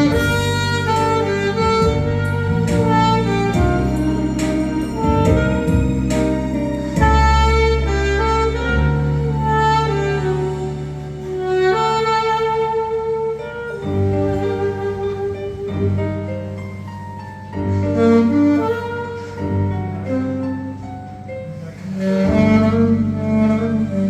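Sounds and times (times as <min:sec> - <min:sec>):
saxophone playing slow melody: 0:00.0 - 0:24.0
sustained low accompaniment: 0:00.0 - 0:24.0.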